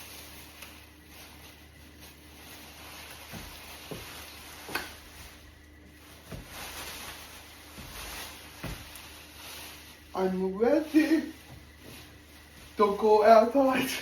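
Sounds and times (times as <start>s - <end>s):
plastic rain gear rustling: 0.0s - 14.0s.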